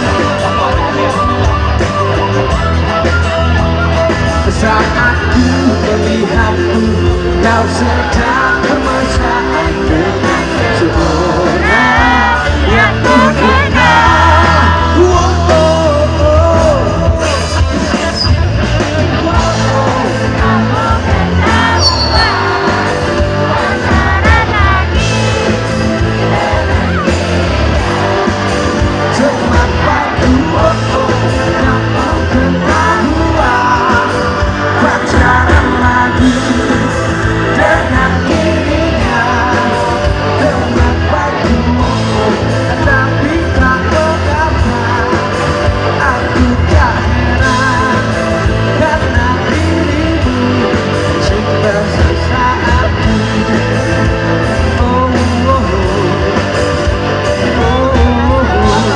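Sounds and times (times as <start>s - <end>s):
bass guitar: 0.0s - 58.9s
drums: 0.0s - 58.9s
electric guitar: 0.0s - 58.9s
man singing: 0.0s - 58.9s.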